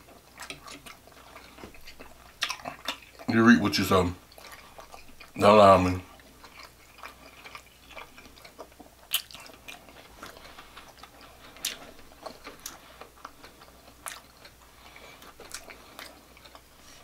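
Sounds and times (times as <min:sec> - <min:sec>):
chewing with wet mouth clicks: 0:00.0 - 0:17.0.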